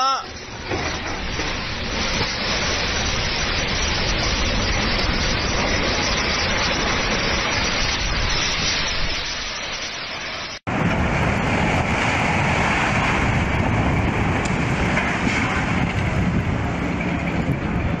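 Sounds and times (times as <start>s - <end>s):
building collapsing rumble: 0.2s - 18.0s
wind buffeting microphone: 0.3s - 9.5s, 10.6s - 18.0s.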